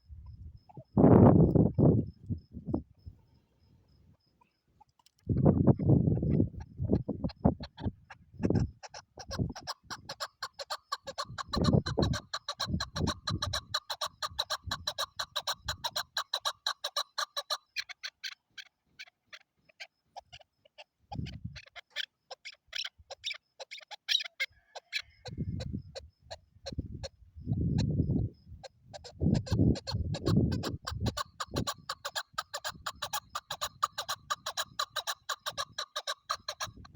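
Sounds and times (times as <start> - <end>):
partridge clucking calls: 4.4 - 36.9.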